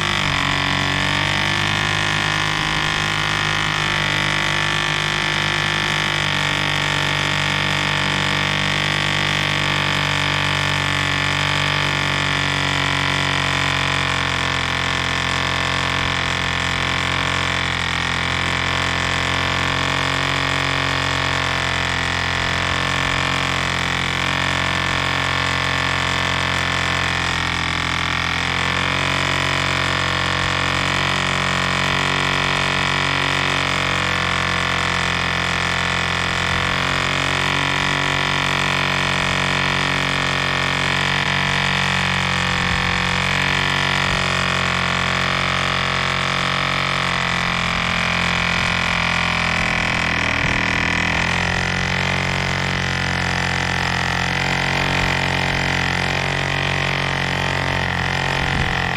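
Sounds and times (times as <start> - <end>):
model airplane engine running: 0.0 - 58.9.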